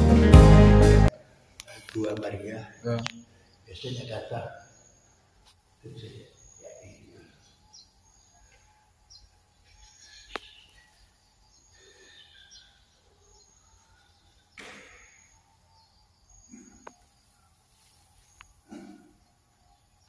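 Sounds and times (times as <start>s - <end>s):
faint chapel ambience: 1.1s - 20.0s
distant bird chirps: 1.2s - 20.0s.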